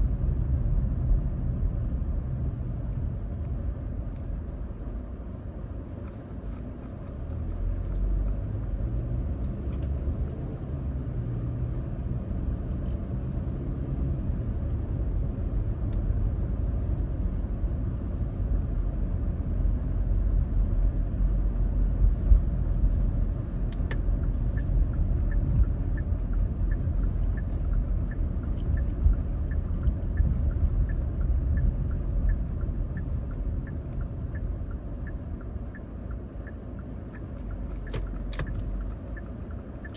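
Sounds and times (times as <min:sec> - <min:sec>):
road rumble and engine hum: 0:00.0 - 0:39.9
turn signal ticking: 0:06.0 - 0:39.9.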